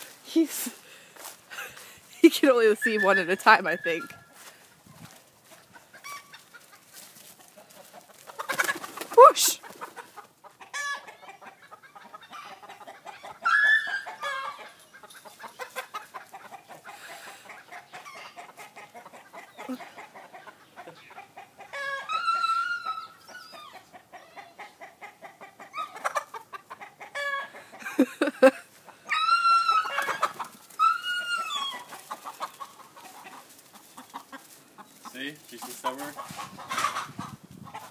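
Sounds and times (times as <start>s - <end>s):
chickens clucking: 0.0s - 37.9s
long arching chicken calls: 0.0s - 37.9s.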